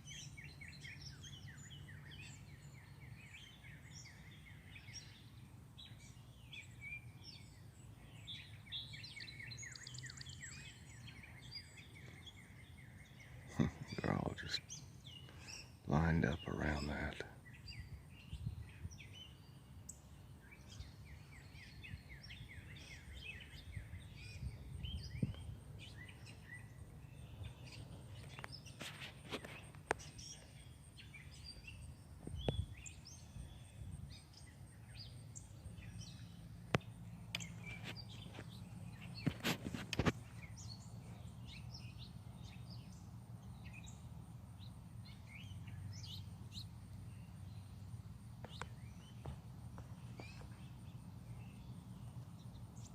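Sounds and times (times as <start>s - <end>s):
small songbirds chirping: 0.0s - 52.9s.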